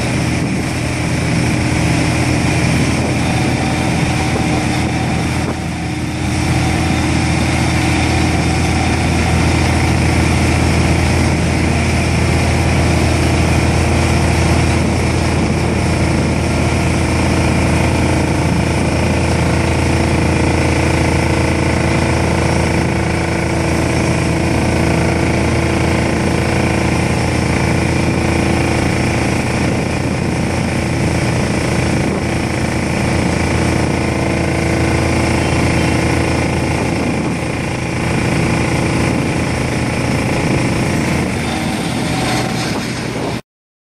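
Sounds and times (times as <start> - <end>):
vibratory pile hammer droning: 0.0 - 43.4.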